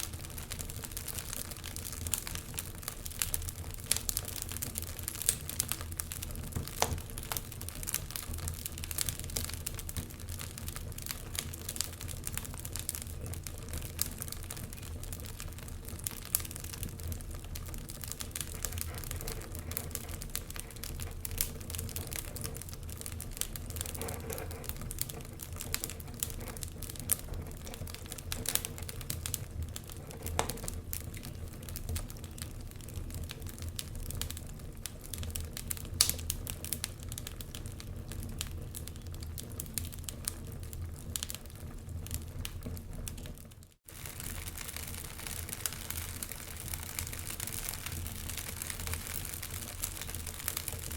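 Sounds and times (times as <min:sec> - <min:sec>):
wood crackling and popping in fire: 0:00.0 - 0:50.9.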